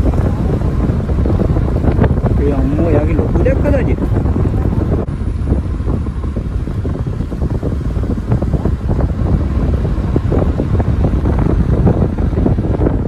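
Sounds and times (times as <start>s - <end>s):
car and road rumble: 0.0s - 13.0s
wind buffeting microphone: 0.0s - 13.0s.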